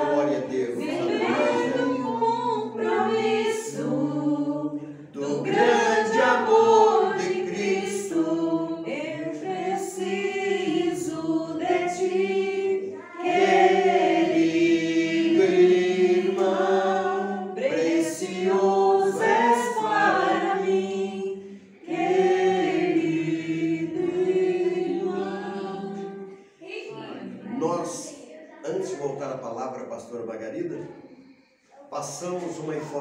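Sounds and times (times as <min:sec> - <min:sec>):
voices singing worship song: 0:00.0 - 0:33.0.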